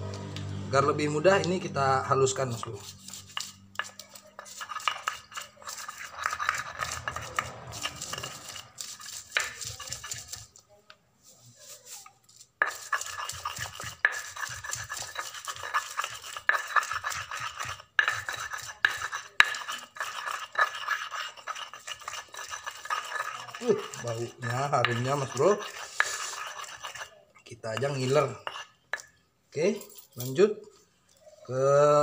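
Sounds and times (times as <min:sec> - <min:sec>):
stone pestle grinding on mortar: 0:01.4 - 0:10.6, 0:11.6 - 0:29.2.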